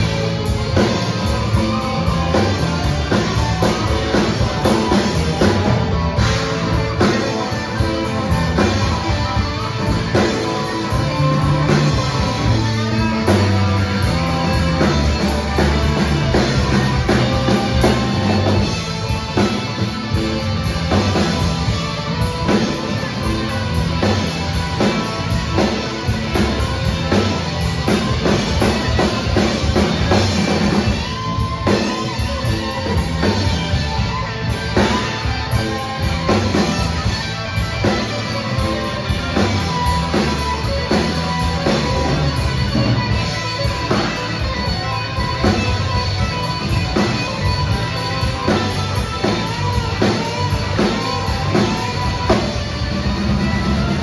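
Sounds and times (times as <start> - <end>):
bending lead guitar notes: 0.0 - 54.0
live rock band playing: 0.0 - 54.0.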